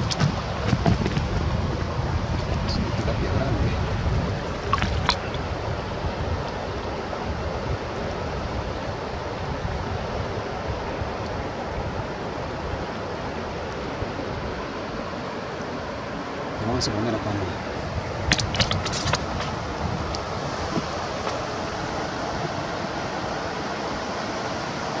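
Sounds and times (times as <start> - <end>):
river water running over stones: 0.0 - 25.0.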